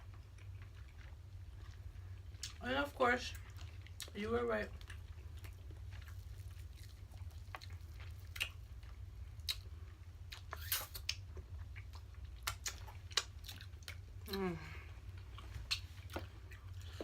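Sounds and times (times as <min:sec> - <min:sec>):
chewing and mouth sounds: 0:00.0 - 0:17.0
steady low hum: 0:00.0 - 0:17.0.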